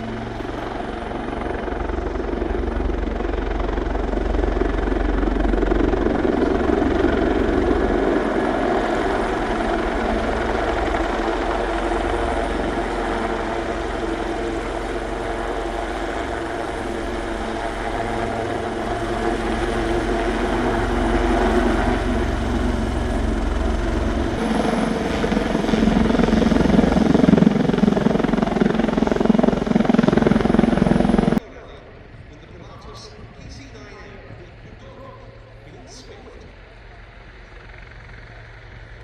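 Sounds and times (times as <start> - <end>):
helicopter turbine whine and rotor chop: 0.0 - 39.0.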